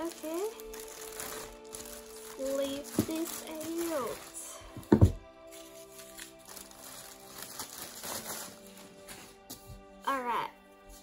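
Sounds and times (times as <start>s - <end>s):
plastic bag crinkling: 0.0s - 9.5s
music with held notes: 0.0s - 11.0s.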